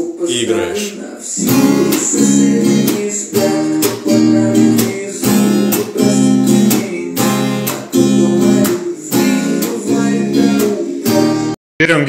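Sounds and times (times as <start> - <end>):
acoustic guitar strumming: 0.0 - 11.6.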